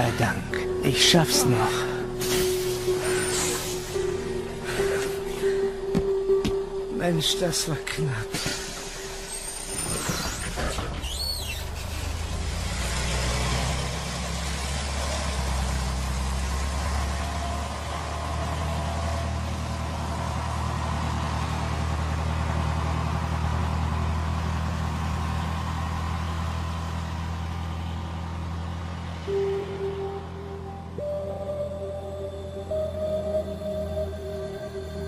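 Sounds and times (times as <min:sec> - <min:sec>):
bus engine droning: 0:00.0 - 0:35.0.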